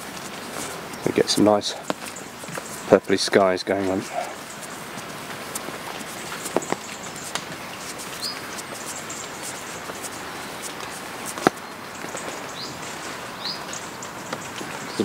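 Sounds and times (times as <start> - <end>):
bird chirping: 0.0 - 15.0
light rain pattering: 0.0 - 15.0.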